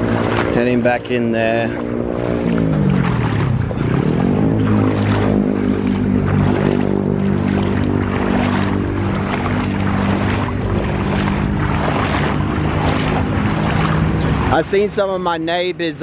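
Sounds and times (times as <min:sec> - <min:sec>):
engine running: 0:00.0 - 0:16.0
splashing through floodwater: 0:00.0 - 0:16.0.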